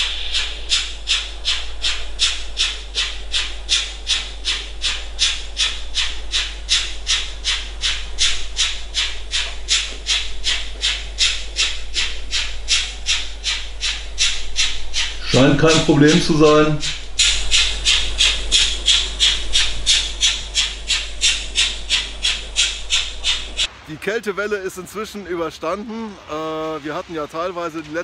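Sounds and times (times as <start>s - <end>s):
model steam locomotive chuffing: 0.0s - 28.0s.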